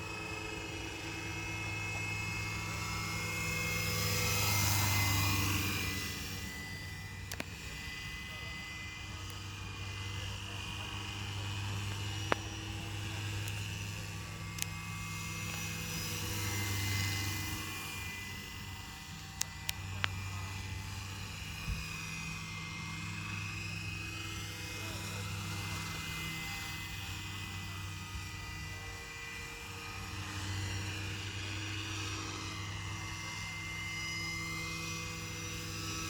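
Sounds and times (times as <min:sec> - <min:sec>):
model helicopter rotor hum: 0:00.0 - 0:36.0.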